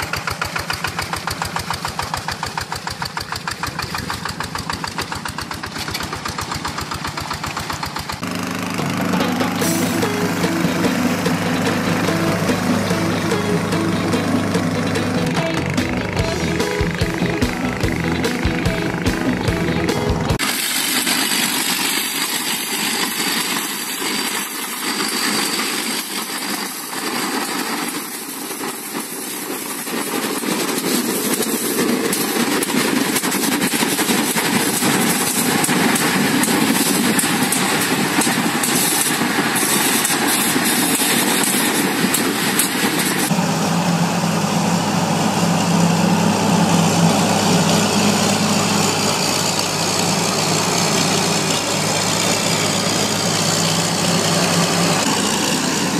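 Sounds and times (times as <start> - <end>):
tractor engines running: 0.0 - 55.9.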